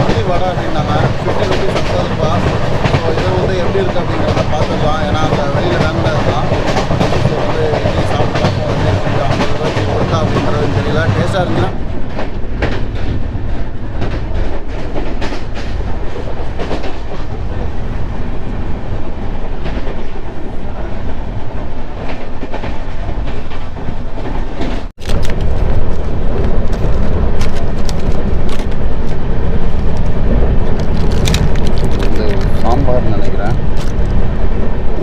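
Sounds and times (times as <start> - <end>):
train rumbling with wheel clicks: 0.0 - 35.0.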